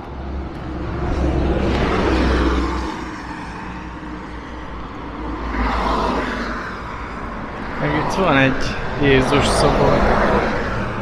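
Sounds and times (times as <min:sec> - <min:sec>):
car passing: 0:00.0 - 0:11.0
vehicle approaching: 0:00.0 - 0:11.0.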